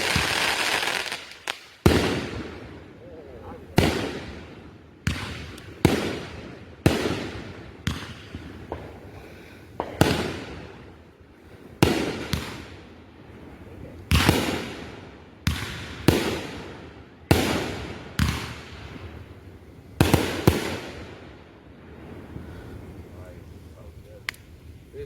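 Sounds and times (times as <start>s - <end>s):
fireworks bangs: 0.0s - 24.5s.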